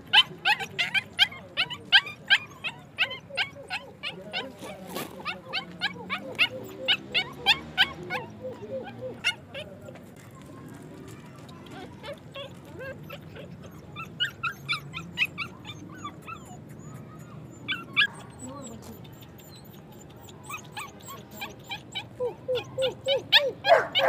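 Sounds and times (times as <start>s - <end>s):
puppies whining: 0.0s - 9.8s, 11.3s - 24.0s
puppies yipping: 0.0s - 9.8s, 11.1s - 24.0s.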